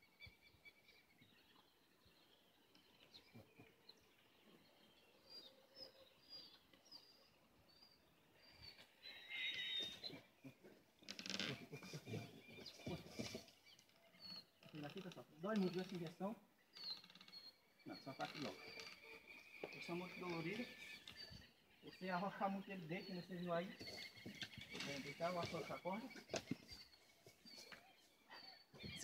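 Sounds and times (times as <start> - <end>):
faint high bird chirps: 0.0 - 29.0.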